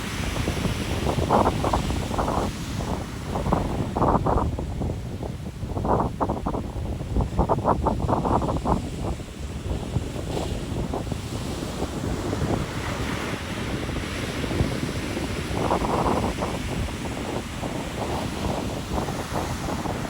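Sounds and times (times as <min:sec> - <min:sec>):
ocean surf rushing: 0:00.0 - 0:05.0, 0:06.0 - 0:20.0
wind buffeting microphone: 0:00.0 - 0:20.0.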